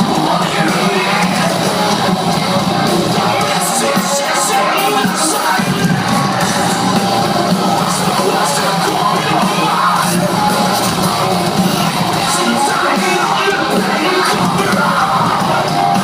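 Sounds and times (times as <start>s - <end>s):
heavy metal band playing live: 0.0s - 16.0s.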